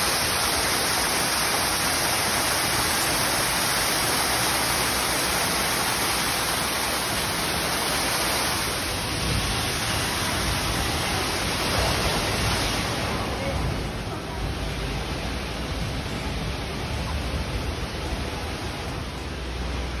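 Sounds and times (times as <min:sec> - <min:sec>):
waterfall rushing and splashing: 0:00.0 - 0:20.0.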